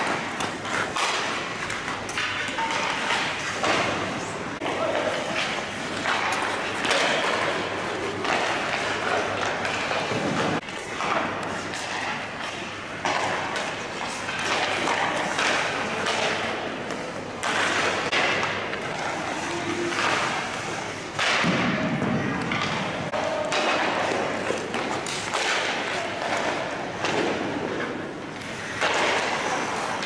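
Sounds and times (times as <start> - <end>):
sticks and pucks knocking: 0.0 - 4.0, 4.6 - 21.6, 22.4 - 30.0
skate blades scraping ice: 0.0 - 21.3, 22.9 - 30.0.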